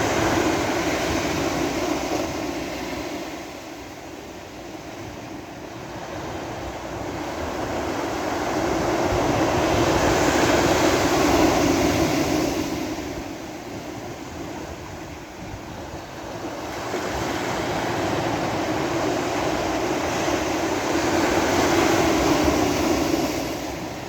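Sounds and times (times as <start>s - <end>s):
sea waves washing onto beach: 0.0s - 24.0s.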